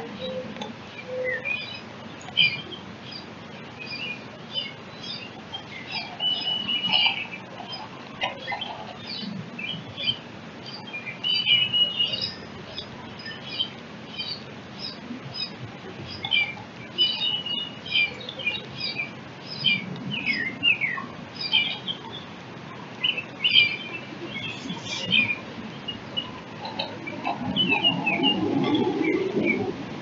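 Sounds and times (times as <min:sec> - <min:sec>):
small birds chirping: 0:00.2 - 0:29.8.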